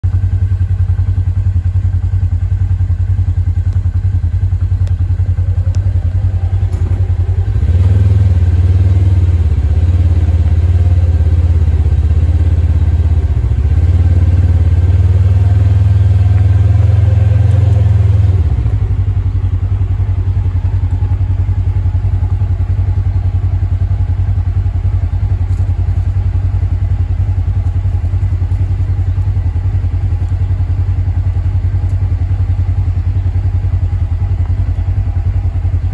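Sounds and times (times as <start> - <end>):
utv engine idling: 0.0 - 35.9.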